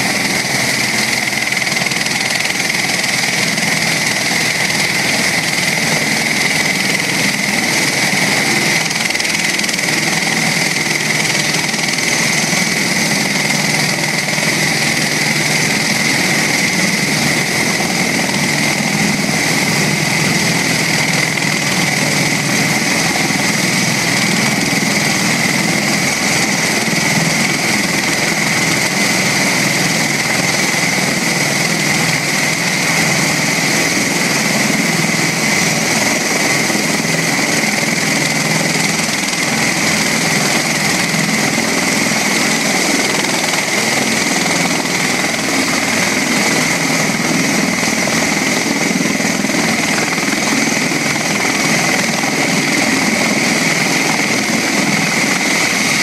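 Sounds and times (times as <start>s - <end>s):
aircraft engines with high whine: 0.0s - 56.0s.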